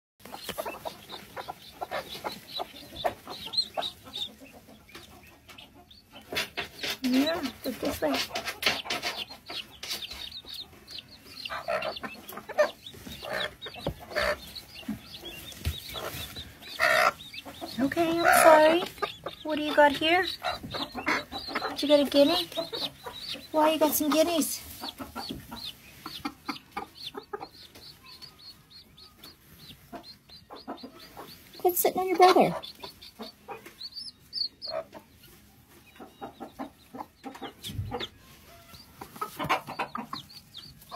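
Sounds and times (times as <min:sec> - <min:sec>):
chicks peeping: 0:00.2 - 0:40.9
hens clucking: 0:00.2 - 0:40.9.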